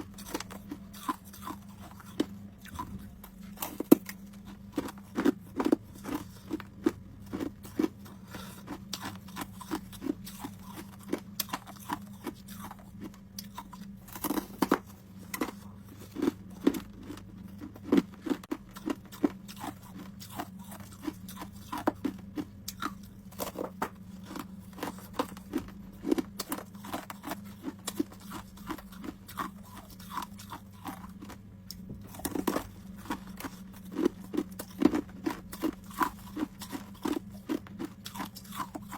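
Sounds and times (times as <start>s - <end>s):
ice cubes crunching while chewed: 0.0s - 38.9s.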